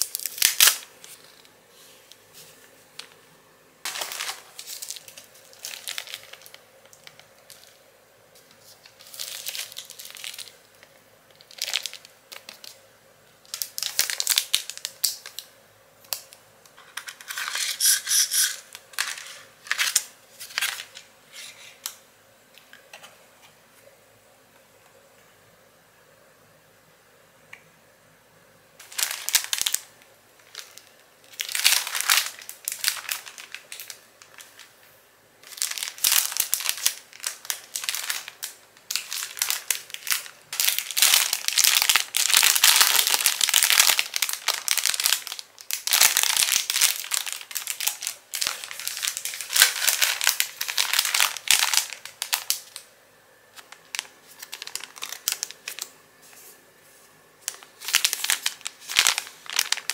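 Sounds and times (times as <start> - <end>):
plastic bags crinkling: 0.0 - 3.2, 3.8 - 12.8, 13.4 - 15.5, 16.1 - 22.0, 28.8 - 52.9, 53.5 - 56.0, 57.4 - 59.9.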